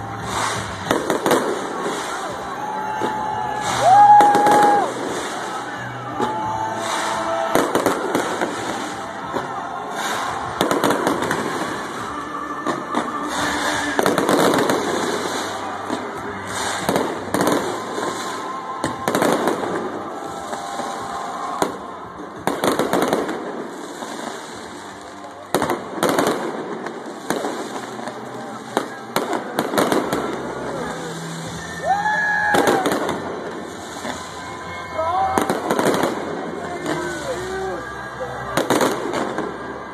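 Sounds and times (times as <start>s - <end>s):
crowd voices: 0.0s - 39.9s
fireworks bursting: 0.0s - 39.9s.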